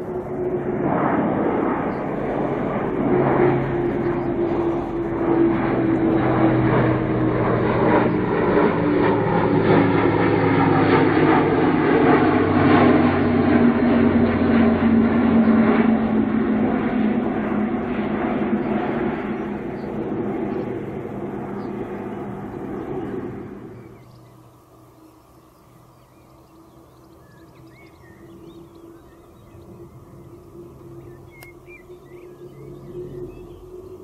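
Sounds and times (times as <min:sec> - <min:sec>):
turboprop aircraft humming: 0:00.0 - 0:34.0.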